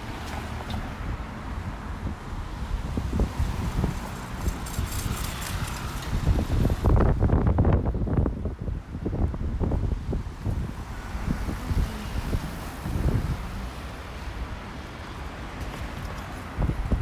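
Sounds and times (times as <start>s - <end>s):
road traffic passing: 0.0s - 17.0s
wind buffeting microphone: 0.0s - 17.0s.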